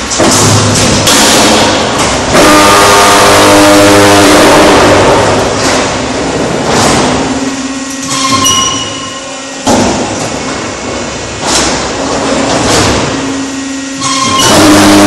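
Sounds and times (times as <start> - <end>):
steady motor hum: 0.0 - 15.0.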